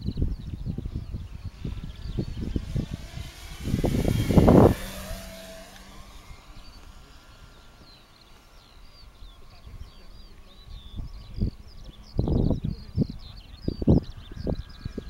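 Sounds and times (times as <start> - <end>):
model plane propeller whining: 0.5 - 15.0.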